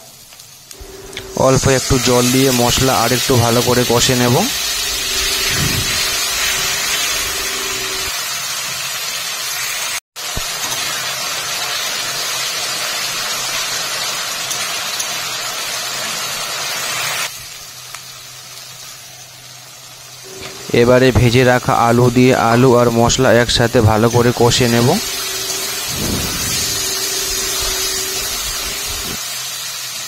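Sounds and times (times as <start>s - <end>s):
paste sizzling in hot oil: 0.4s - 30.0s.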